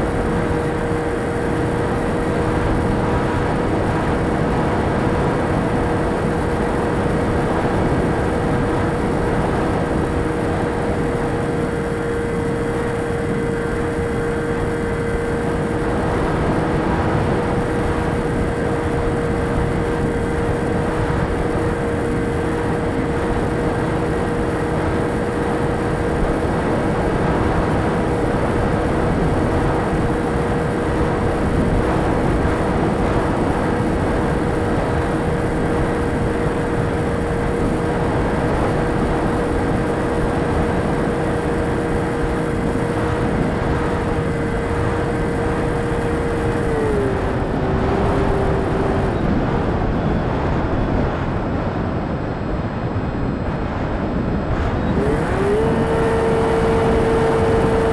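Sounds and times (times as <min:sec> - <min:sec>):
model aircraft motor humming: 0:00.0 - 0:51.5, 0:54.2 - 0:57.9
wind buffeting microphone: 0:00.0 - 0:57.9.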